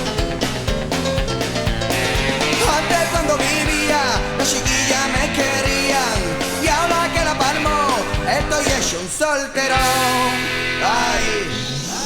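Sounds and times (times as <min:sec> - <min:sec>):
steady drum beat: 0:00.0 - 0:09.1, 0:09.8 - 0:11.0
rock music: 0:00.0 - 0:12.0.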